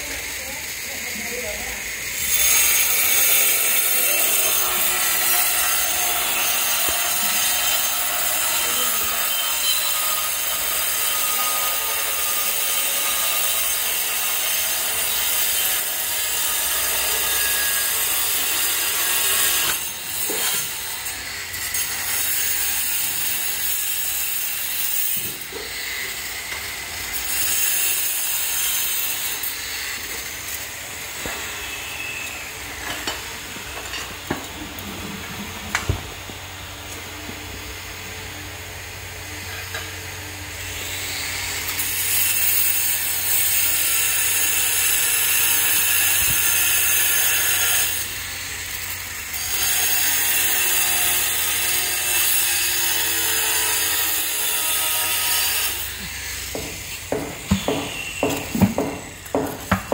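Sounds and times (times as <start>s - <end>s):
angle grinder cutting tile: 0.0s - 34.3s, 38.0s - 59.9s.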